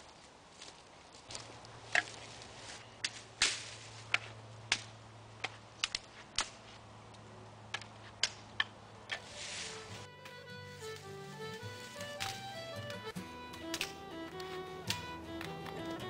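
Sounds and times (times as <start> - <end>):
dry sticks snapping: 1.2 - 2.3, 3.0 - 9.3, 10.2 - 16.0.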